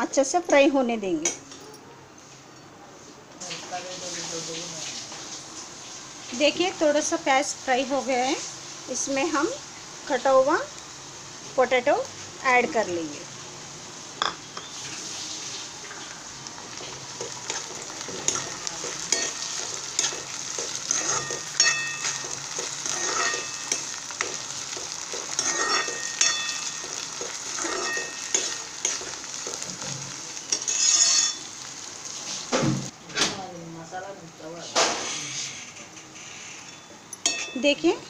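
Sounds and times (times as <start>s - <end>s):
potato and onion sizzling in oil: 3.4s - 38.0s.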